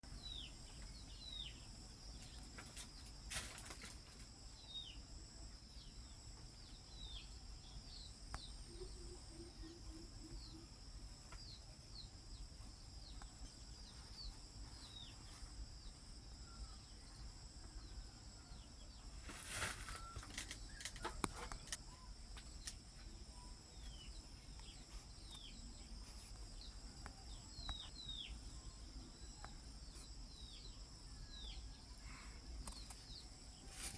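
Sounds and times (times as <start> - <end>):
high insect drone: 0.1 - 33.9.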